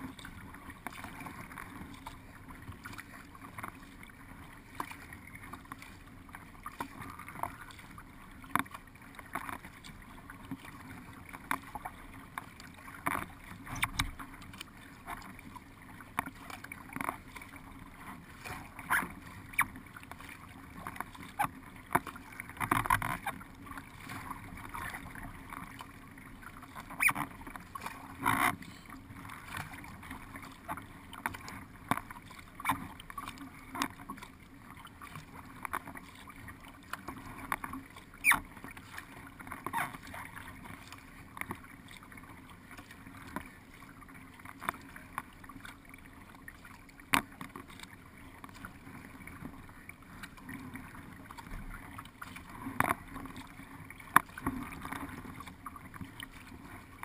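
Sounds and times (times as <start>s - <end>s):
paddle stroke splashes and knocks: 0.0s - 57.0s
water rushing along boat hull: 0.0s - 57.0s.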